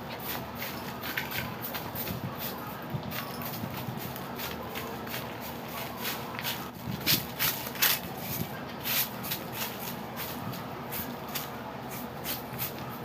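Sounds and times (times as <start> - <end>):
broom sweeping debris on ground: 0.1 - 12.8.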